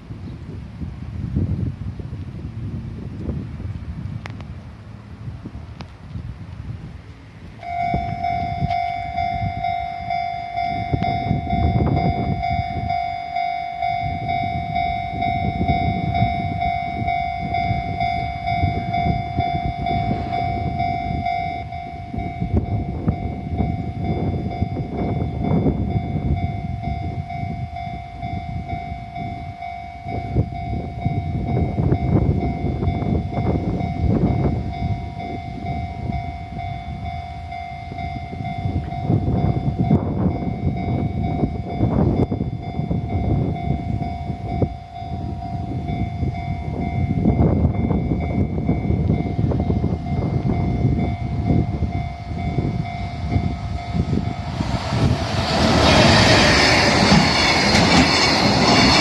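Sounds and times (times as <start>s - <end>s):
train wheels rumbling on rails: 0.0s - 59.0s
level crossing bells ringing: 7.6s - 59.0s.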